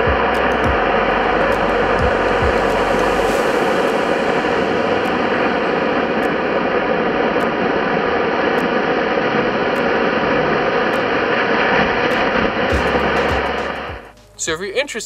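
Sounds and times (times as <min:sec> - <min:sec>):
rocket motor exhaust rushing: 0:00.0 - 0:14.2.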